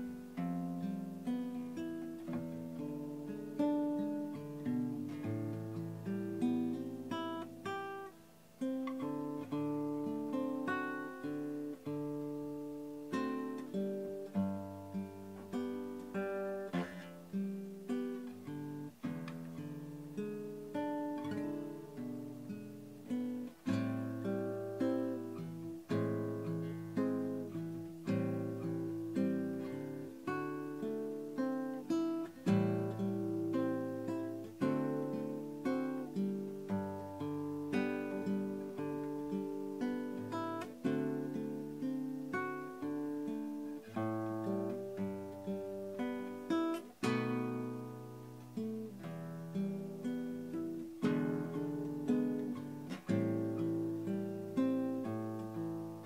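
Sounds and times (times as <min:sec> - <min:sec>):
acoustic guitar strumming chords: 0:00.0 - 0:56.0.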